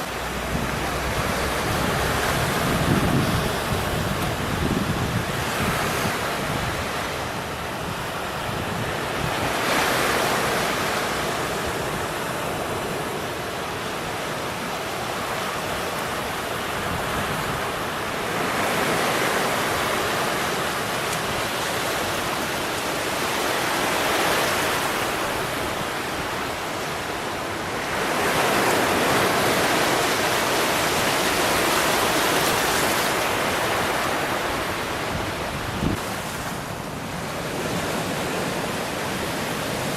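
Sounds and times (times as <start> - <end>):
moving floodwater: 0.0 - 39.9.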